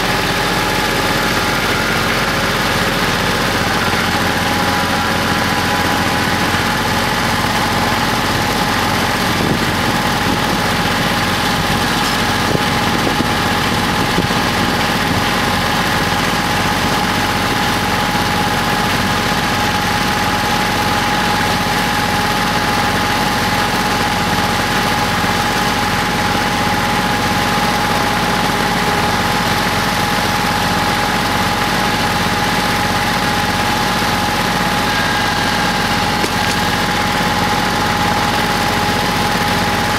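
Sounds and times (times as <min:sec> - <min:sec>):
steady whine: 0:00.0 - 0:20.2, 0:20.9 - 0:39.9
diesel tractor engine idling: 0:00.0 - 0:39.9.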